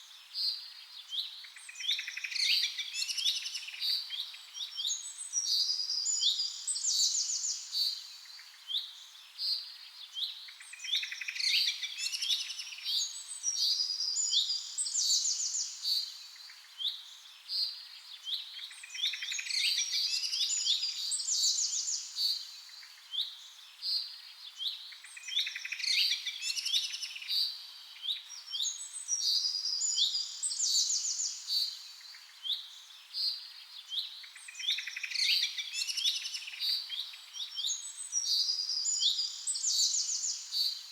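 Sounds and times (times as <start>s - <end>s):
songbirds chirping and trilling: 0.7s - 40.9s.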